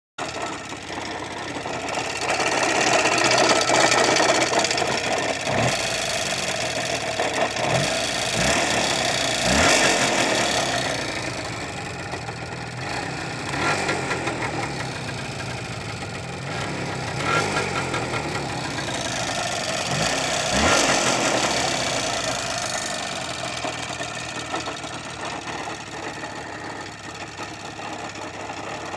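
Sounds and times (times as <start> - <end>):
motorcycle engine revving: 0.2 - 28.9.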